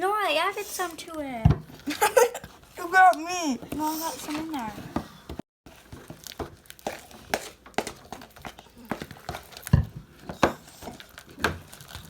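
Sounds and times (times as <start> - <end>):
spoons stirring sticky slime: 0.4 - 12.0.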